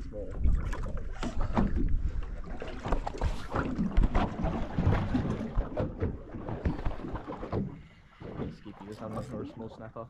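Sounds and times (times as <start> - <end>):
water slapping against boat hull: 0.0 - 9.5.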